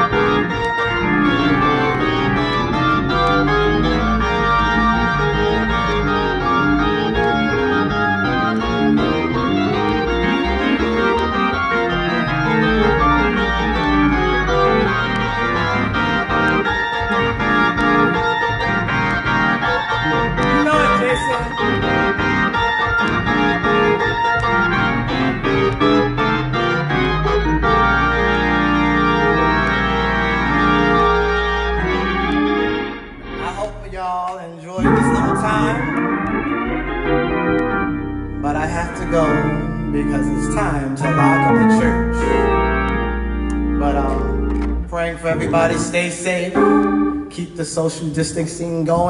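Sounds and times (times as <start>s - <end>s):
organ chords on keyboard: 0.0s - 49.0s.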